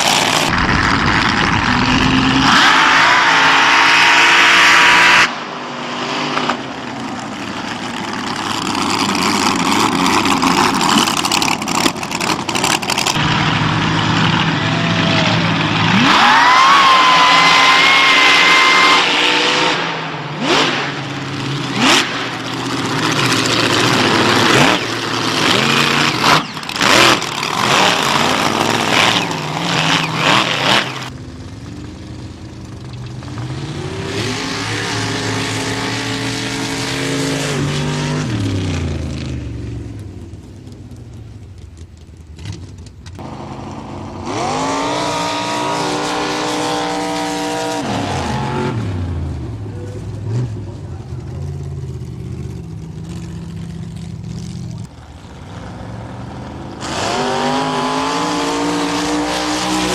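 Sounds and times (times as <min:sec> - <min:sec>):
monster truck engines revving: 0:00.0 - 0:59.9.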